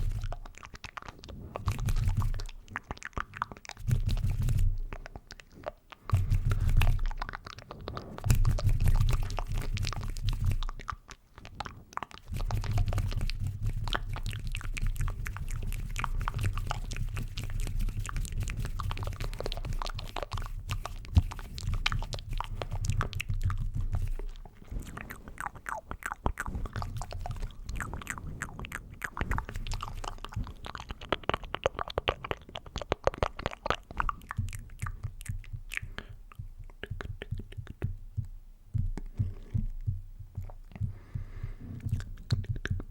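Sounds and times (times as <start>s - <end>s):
wet mouth clicks and smacks: 0.0s - 42.9s.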